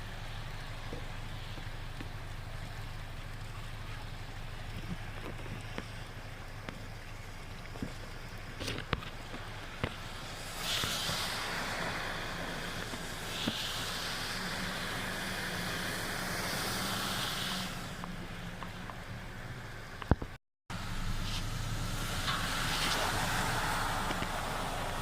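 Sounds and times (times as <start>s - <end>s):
water hissing under tyres: 0.0s - 20.0s, 20.8s - 25.0s
vehicle engine running: 0.0s - 25.0s.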